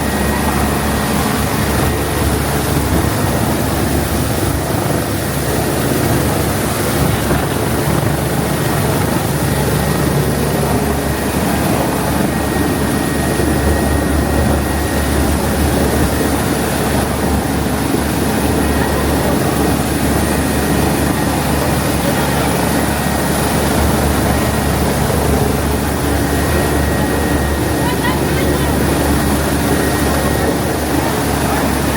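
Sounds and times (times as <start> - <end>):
aircraft engine drone: 0.0 - 31.9.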